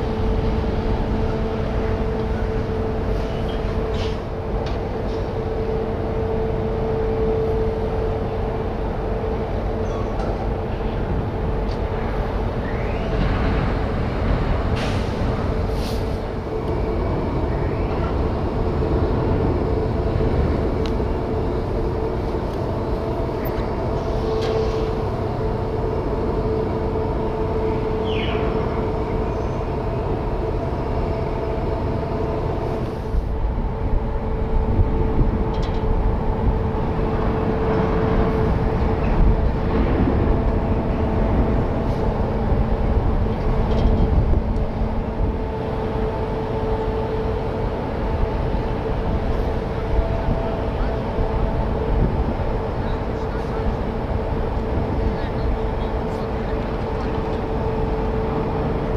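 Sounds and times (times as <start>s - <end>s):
ship machinery rumbling: 0.0s - 58.9s.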